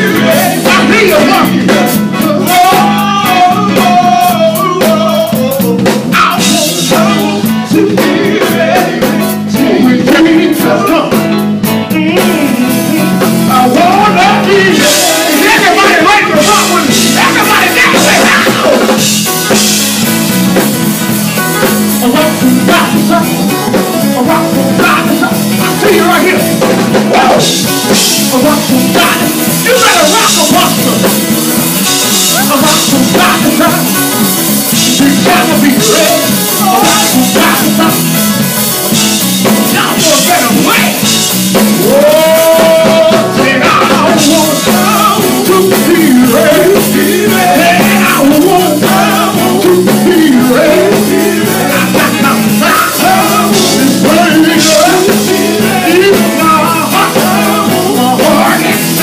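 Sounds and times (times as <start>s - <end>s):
person singing: 0.0s - 19.8s, 21.6s - 59.0s
bass guitar: 0.0s - 59.0s
drum kit with cymbals: 0.0s - 59.0s
keyboard: 0.0s - 59.0s.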